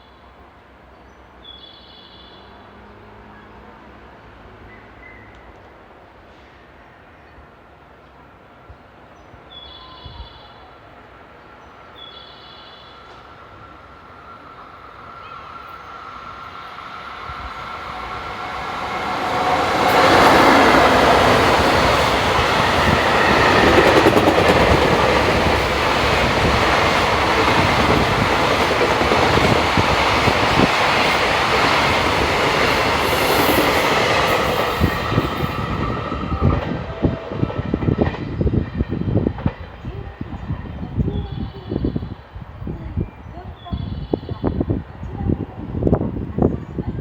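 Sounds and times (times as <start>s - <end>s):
freight train passing: 2.6s - 9.8s, 10.6s - 43.6s.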